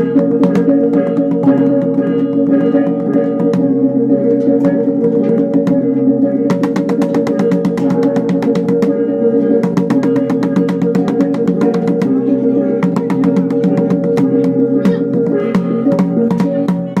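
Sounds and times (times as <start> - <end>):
gongs struck in fast rhythm: 0.0 - 17.0.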